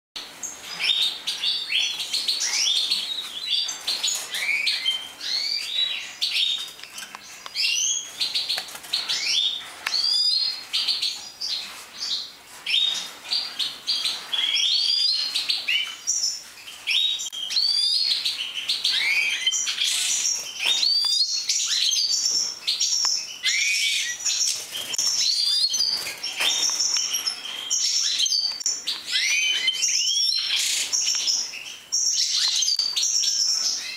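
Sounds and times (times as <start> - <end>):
goldfinches chirping and singing: 0.4 - 33.9.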